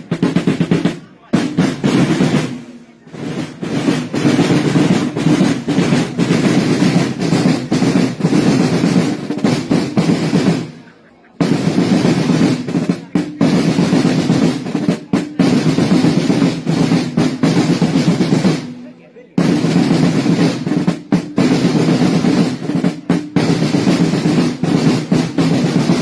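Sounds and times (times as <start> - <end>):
snare drum rolls: 0.0 - 26.0.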